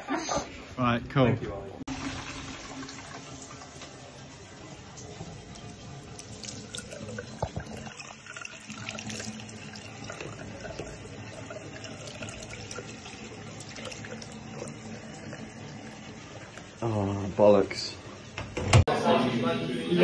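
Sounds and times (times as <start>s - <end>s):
tap water running into basin: 1.9s - 18.4s.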